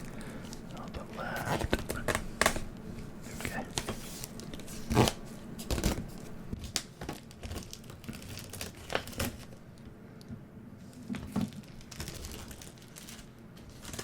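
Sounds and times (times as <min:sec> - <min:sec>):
plastic wrapping crinkling and tearing: 0:00.0 - 0:09.6, 0:11.0 - 0:14.0.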